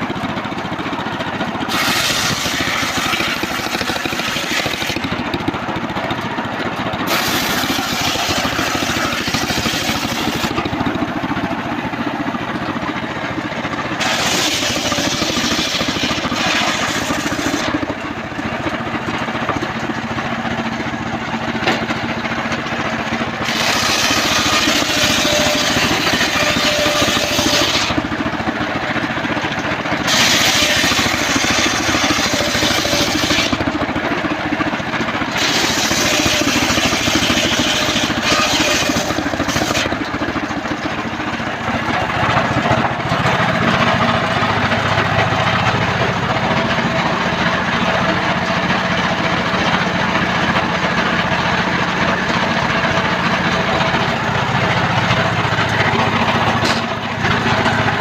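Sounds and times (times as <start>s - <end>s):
sawmill engine running: 0.0s - 58.0s
saw blade cutting log: 1.1s - 18.5s, 21.6s - 50.6s, 51.8s - 58.0s.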